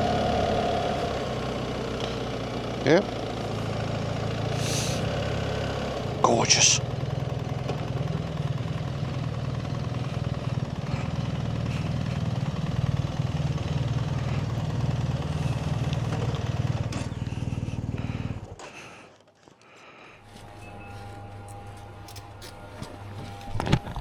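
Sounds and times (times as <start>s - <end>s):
motorcycle engine running: 0.0s - 18.8s, 20.0s - 24.0s.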